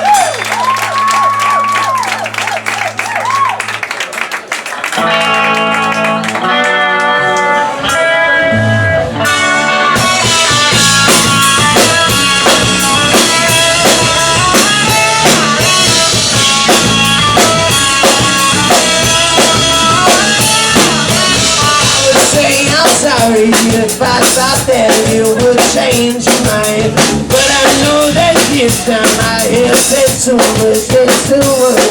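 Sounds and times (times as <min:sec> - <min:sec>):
bass guitar: 0:00.0 - 0:03.8, 0:04.9 - 0:31.9
electric guitar: 0:04.8 - 0:31.9
drum kit beat: 0:05.0 - 0:31.9.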